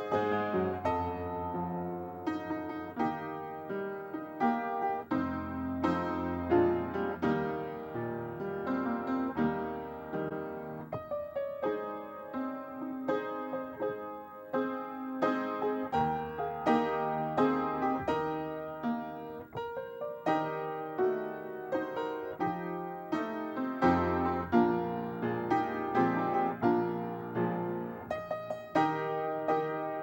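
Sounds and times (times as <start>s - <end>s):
piano playing chords and melody: 0.0s - 30.0s.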